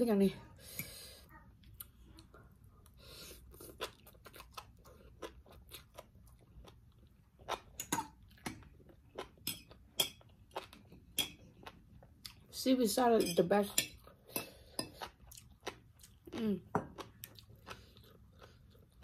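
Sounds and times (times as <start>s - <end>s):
person chewing: 0.8s - 12.5s, 13.8s - 19.0s.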